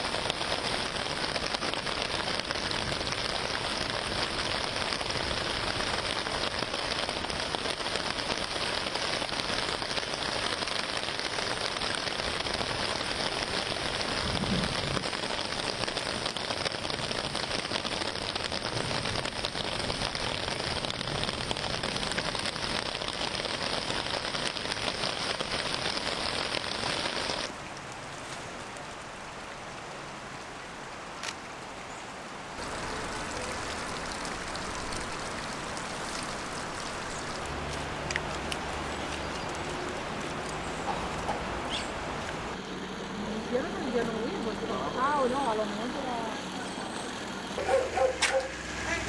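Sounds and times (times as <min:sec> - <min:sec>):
heavy rain hissing: 0:00.0 - 0:31.6, 0:32.3 - 0:49.0.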